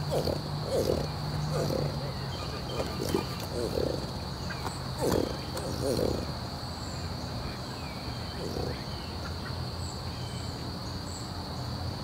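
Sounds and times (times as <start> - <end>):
low outdoor rumble: 0.0 - 11.2
insects buzzing: 0.0 - 12.0.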